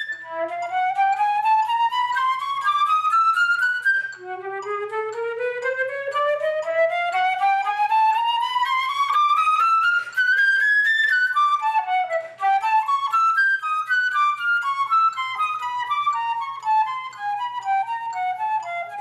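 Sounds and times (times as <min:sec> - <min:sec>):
flute playing fast notes: 0:00.0 - 0:19.0.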